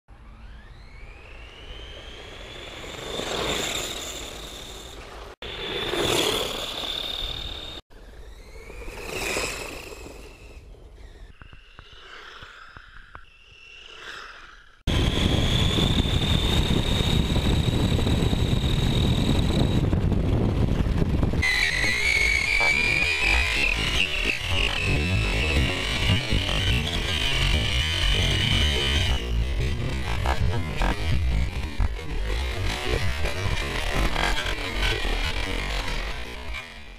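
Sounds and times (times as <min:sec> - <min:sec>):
electric motors whining: 0:00.1 - 0:20.1, 0:20.9 - 0:36.9.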